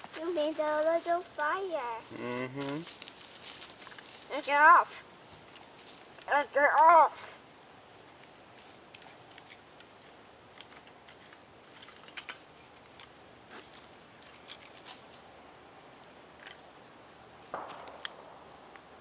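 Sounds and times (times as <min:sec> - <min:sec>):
small fire crackling: 0:00.0 - 0:19.0.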